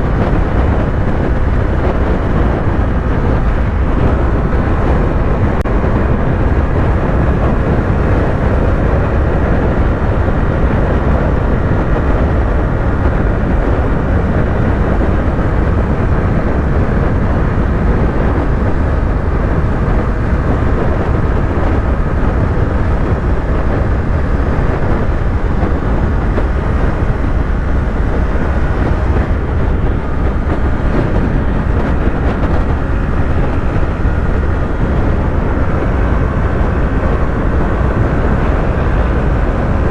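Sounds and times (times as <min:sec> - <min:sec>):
heavy wind: 0:00.0 - 0:39.9
motorcycle engine cruising: 0:00.0 - 0:39.9
road rumble: 0:00.0 - 0:39.9.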